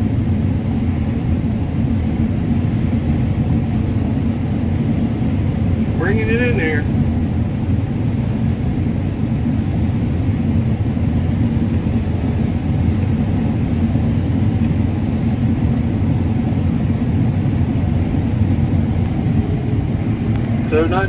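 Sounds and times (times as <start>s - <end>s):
combine harvester rumbling: 0.0s - 21.0s.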